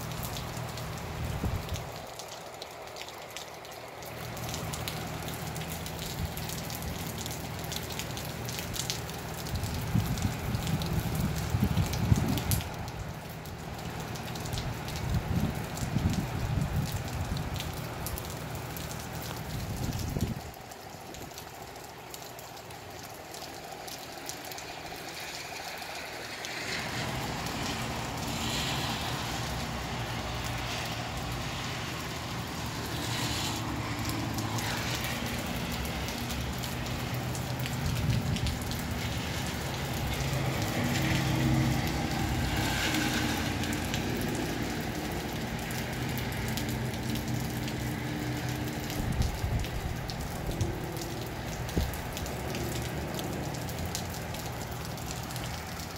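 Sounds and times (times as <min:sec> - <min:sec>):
steady rain falling: 0:00.0 - 0:55.9
water dripping off eaves: 0:00.0 - 0:55.9.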